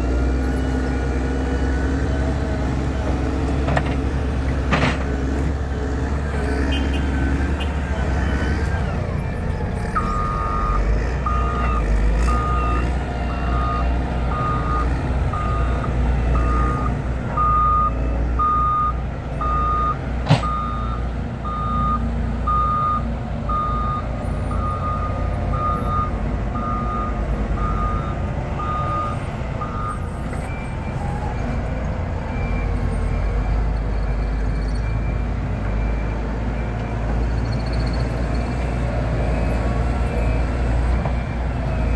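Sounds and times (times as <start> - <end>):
diesel engines running: 0.0 - 41.9
reversing alarm beeping: 8.2 - 41.9.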